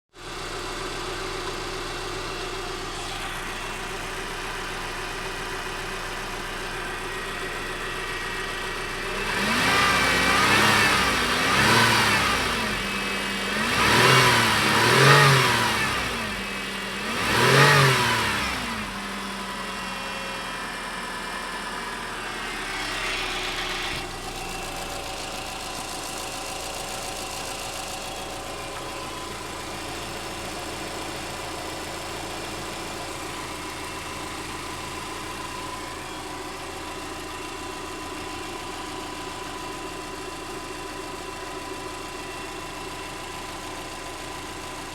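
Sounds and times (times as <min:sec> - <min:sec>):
car engine idling and revving: 0:00.2 - 0:44.9.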